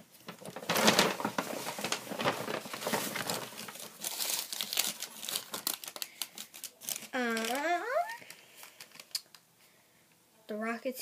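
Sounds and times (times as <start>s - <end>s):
paper crinkling and rustling: 0.0s - 9.3s.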